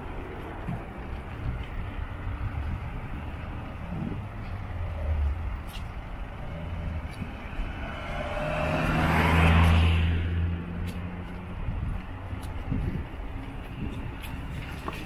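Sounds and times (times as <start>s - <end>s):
low traffic hum: 0.0s - 15.0s
vehicle passing by: 1.4s - 15.0s.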